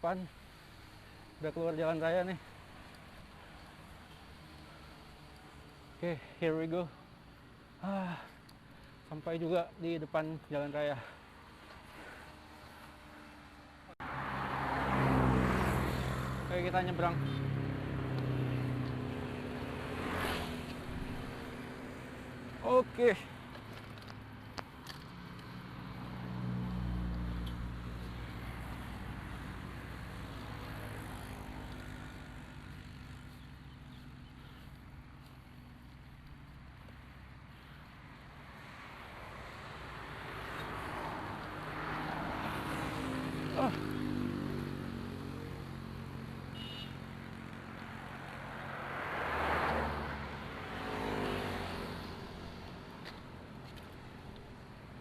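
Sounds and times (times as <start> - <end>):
vehicle engine hum: 10.4 - 55.0.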